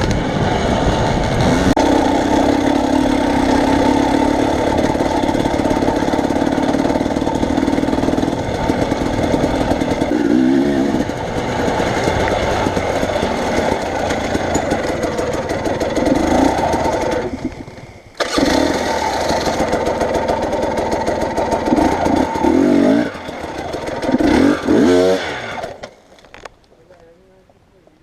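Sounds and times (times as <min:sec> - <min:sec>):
vehicle engine running under load: 0:00.0 - 0:25.8.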